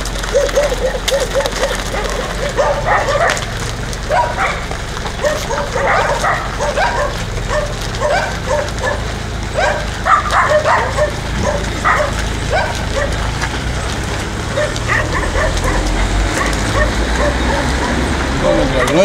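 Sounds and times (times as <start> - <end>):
dogs barking and yipping: 0.0 - 19.0.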